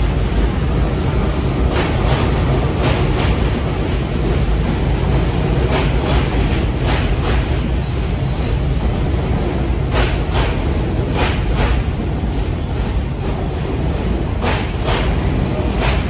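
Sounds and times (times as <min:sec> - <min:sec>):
subway train rumbling: 0:00.0 - 0:16.0
wheels clacking over rail joints: 0:01.4 - 0:07.7, 0:08.7 - 0:16.0.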